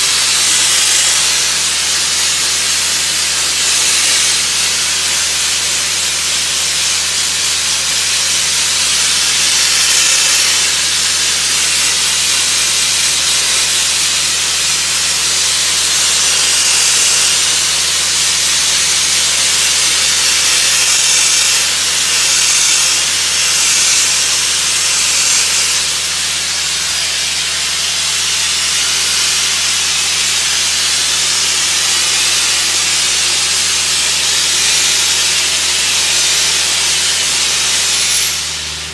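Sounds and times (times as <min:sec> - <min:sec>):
sandblasting nozzle hissing: 0:00.0 - 0:38.9.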